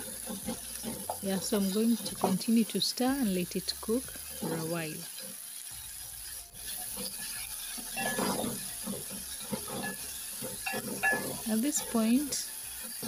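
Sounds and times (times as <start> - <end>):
spatula scraping metal pot: 0.0 - 13.0
vegetables sizzling in oil: 0.0 - 13.0.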